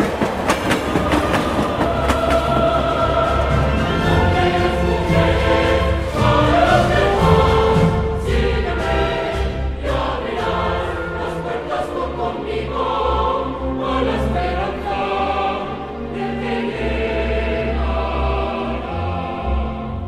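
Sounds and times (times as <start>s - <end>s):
music with choir-like voices: 0.0s - 20.0s.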